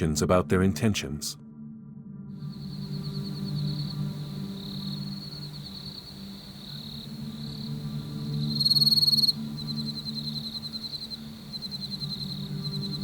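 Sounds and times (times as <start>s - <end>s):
low droning music: 0.0s - 13.0s
crickets chirping: 2.3s - 13.0s.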